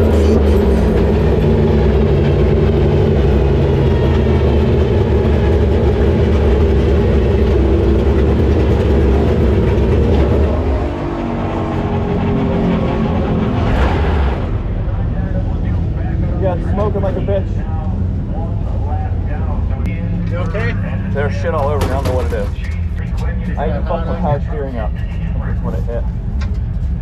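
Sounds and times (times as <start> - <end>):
race truck engine running: 0.0 - 27.0.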